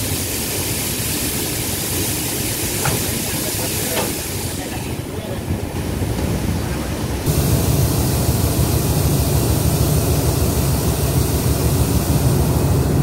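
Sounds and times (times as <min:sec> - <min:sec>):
train engine rumble: 0:00.0 - 0:13.0
train rushing noise: 0:00.0 - 0:13.0.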